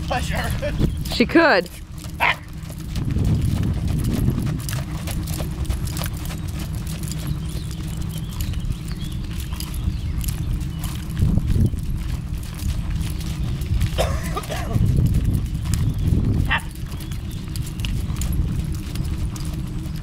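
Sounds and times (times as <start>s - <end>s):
horse hooves trotting on dirt: 0.0s - 20.0s.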